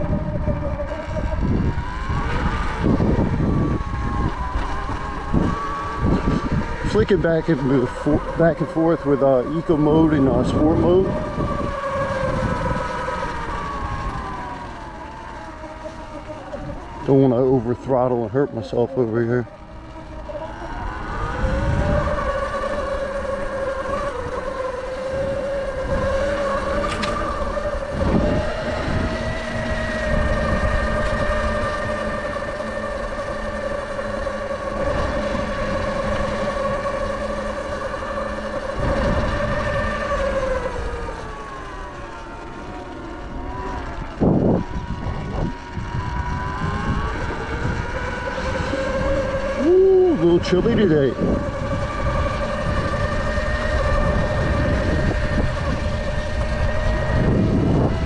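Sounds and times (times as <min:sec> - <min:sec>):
electric dirt bike motor whining: 0:00.0 - 0:58.0
gusty wind noise: 0:00.0 - 0:58.0.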